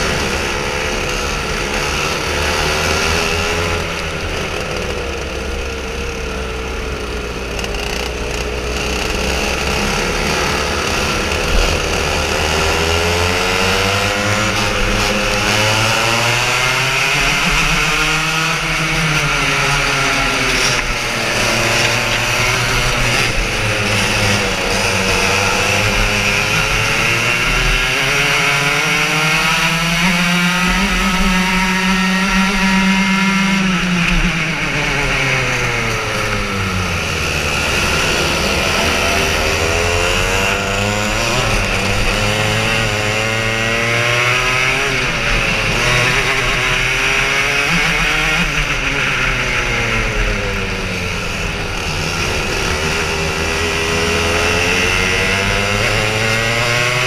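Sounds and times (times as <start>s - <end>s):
kart engine revving: 0.0s - 57.0s
other kart engines: 0.0s - 57.0s.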